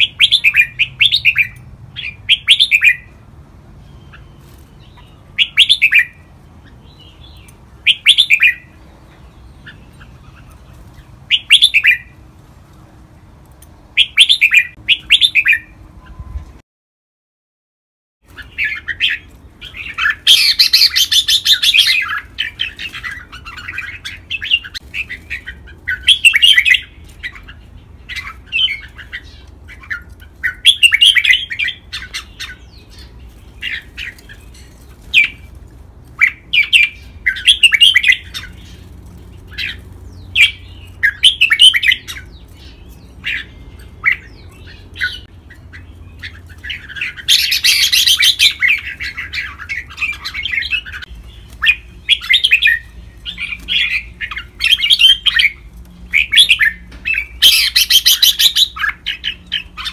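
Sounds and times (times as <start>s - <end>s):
bird warbling song: 0.0s - 3.2s, 3.8s - 12.2s, 13.9s - 16.4s, 18.3s - 35.6s, 36.2s - 59.9s.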